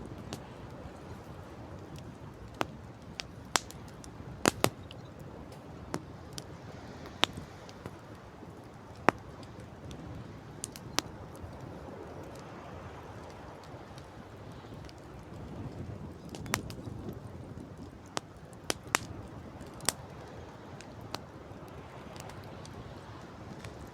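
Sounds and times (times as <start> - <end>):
campfire crackling and popping: 0.0 - 23.9
wind and sea rushing: 0.0 - 23.9.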